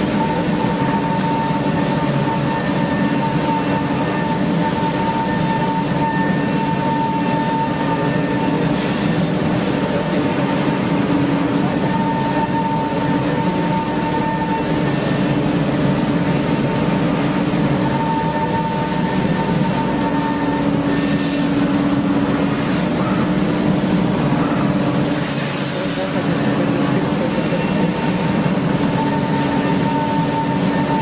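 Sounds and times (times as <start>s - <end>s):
machine low hum: 0.0s - 25.1s
machine whine: 0.0s - 31.0s.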